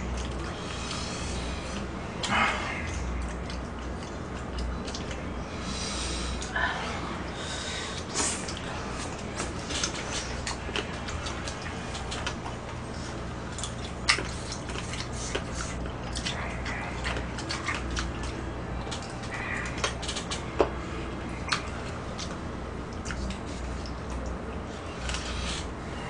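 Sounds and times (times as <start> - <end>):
people chewing and lip-smacking: 0.0 - 26.0
steady low hum: 0.0 - 26.0.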